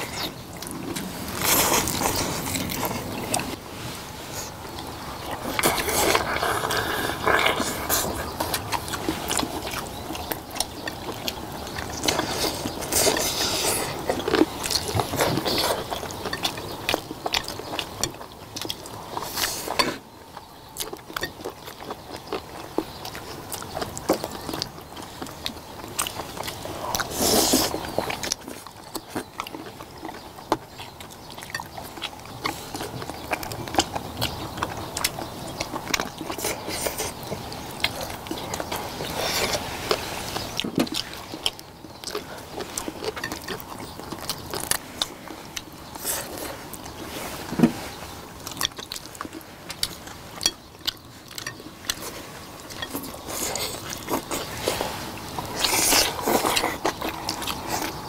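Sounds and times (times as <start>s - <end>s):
people chewing: 0.0s - 58.0s.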